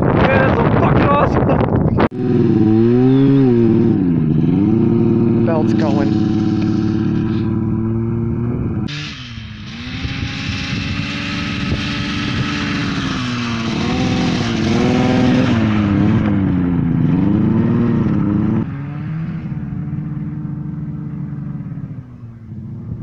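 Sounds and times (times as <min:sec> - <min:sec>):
snowmobile engine revving: 0:02.0 - 0:23.0.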